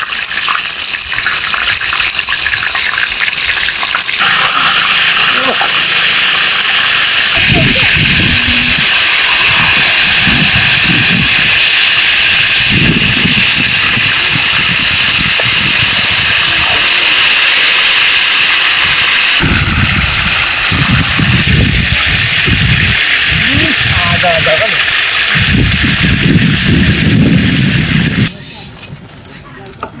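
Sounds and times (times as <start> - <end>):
fish sizzling in oil: 0.0 - 28.2.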